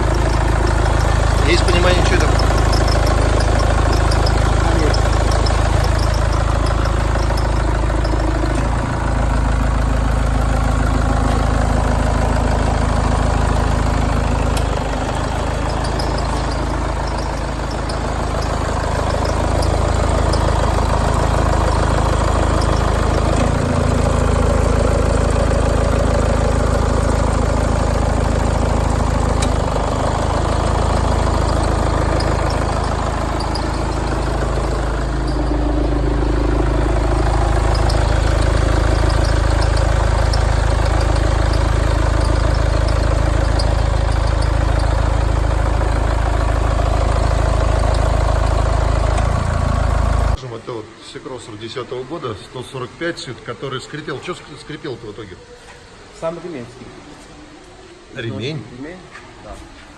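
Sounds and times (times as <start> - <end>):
diesel engine idling: 0.0 - 56.2.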